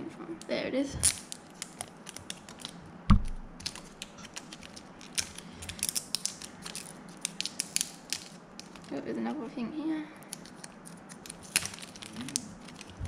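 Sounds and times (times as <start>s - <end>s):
plastic wrap crackling: 1.0s - 9.0s, 10.2s - 13.0s.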